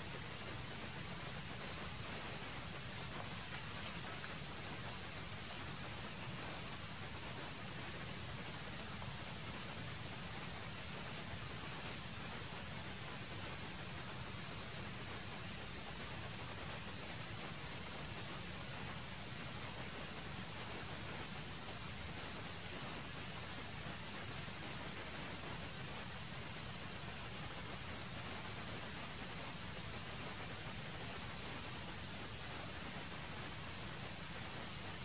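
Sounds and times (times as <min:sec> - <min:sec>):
background hiss: 0:00.0 - 0:35.0
insect chorus drone: 0:00.0 - 0:35.0.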